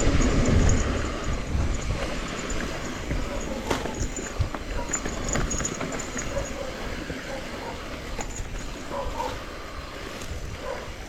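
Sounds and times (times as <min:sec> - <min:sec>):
bike rattling over trail: 0:00.0 - 0:11.0
wind rumble on microphone: 0:00.0 - 0:11.0.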